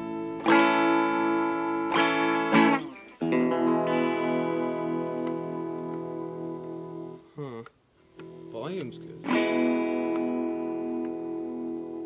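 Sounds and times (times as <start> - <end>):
electric guitar chords strummed: 0.0 - 7.3, 8.1 - 12.0.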